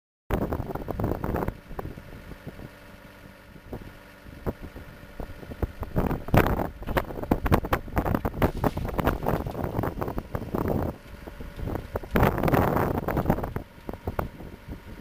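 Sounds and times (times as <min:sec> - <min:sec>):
drilling rig engine running: 0:00.3 - 0:15.0.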